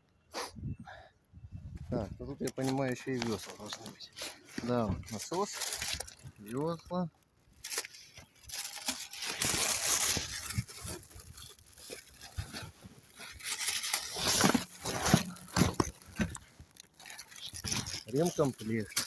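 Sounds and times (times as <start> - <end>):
plastic sacking rustling: 2.5 - 19.0.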